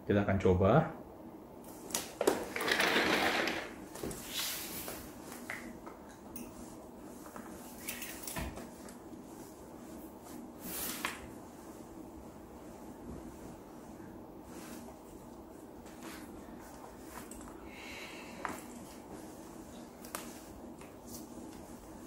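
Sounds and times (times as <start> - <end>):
clothing rustling: 1.7 - 22.0.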